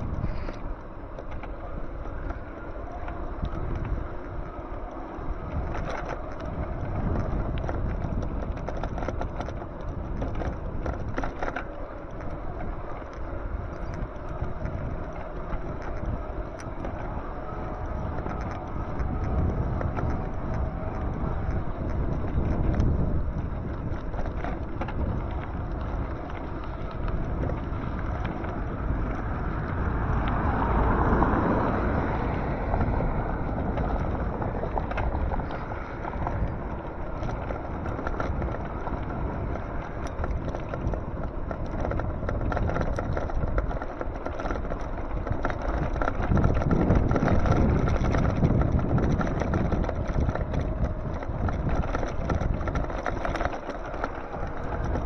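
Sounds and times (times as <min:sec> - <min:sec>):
road and traffic noise: 0:00.0 - 0:55.0
wind rushing over microphone: 0:00.0 - 0:55.0.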